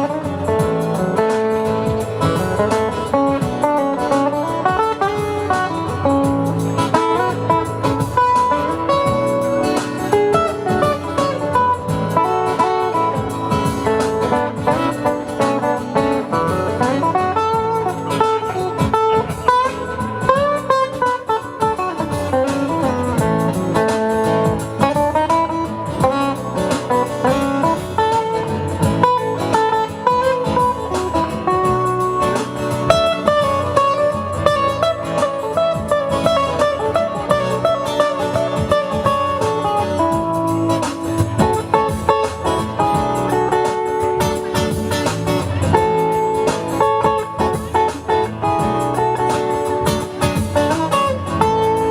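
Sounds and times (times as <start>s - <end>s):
instrumental guitar music: 0.0s - 51.9s.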